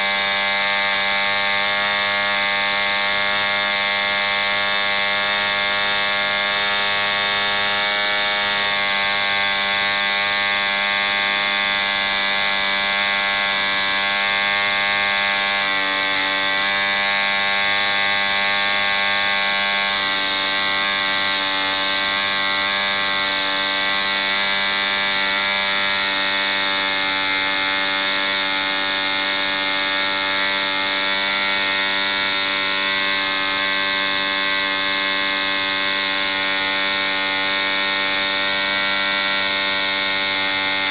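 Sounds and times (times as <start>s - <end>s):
model engine droning: 0.0s - 40.9s.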